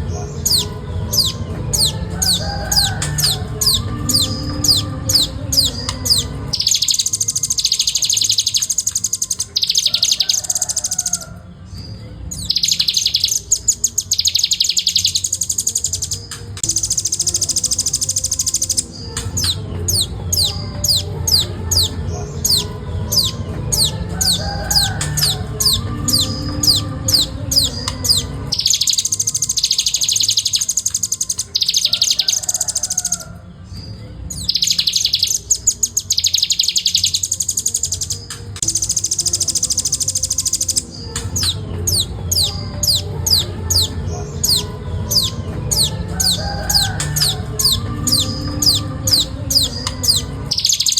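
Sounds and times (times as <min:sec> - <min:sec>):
nuthatch singing: 0:00.0 - 0:50.9.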